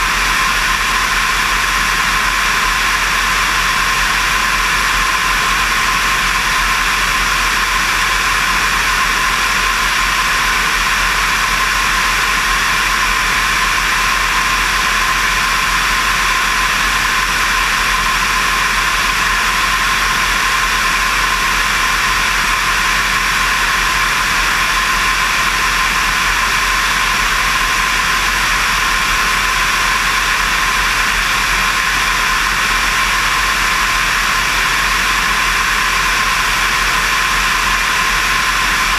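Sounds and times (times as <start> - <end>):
airplane engine and propeller drone: 0.0 - 38.9.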